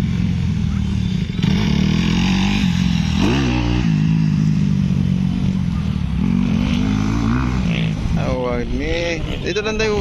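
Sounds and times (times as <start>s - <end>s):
dirt bike engine: 0.0s - 8.5s.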